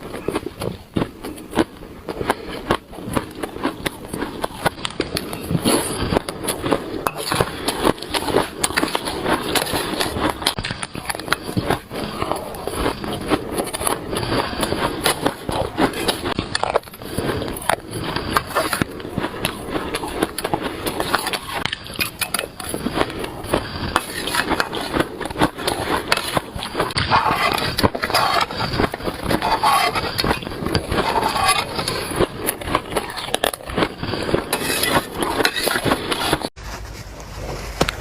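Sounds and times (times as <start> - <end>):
ice being chewed: 0.0 - 36.6.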